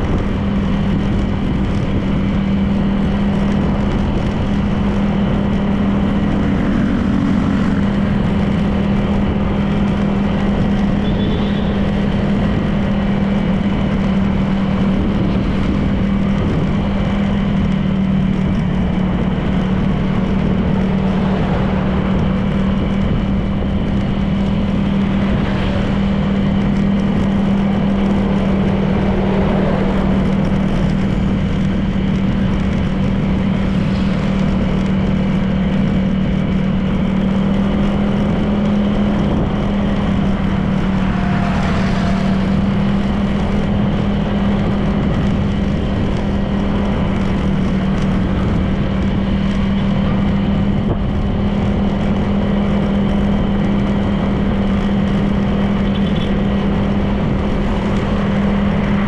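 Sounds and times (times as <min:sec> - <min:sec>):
road noise: 0:00.0 - 0:59.0
scooter engine running: 0:00.0 - 0:59.0.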